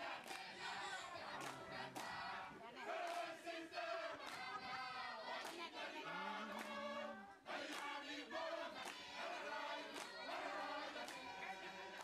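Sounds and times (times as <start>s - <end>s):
group chanting and singing: 0.0s - 12.0s.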